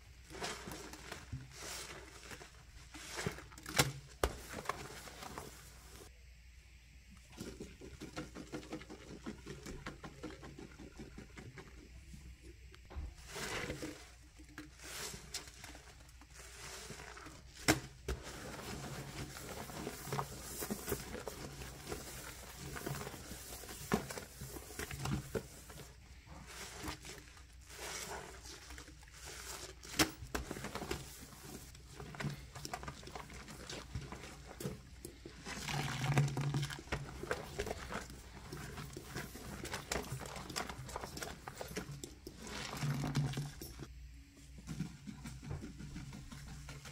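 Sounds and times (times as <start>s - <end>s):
sponge scrubbing metal sink: 0.0s - 6.1s, 7.4s - 43.9s.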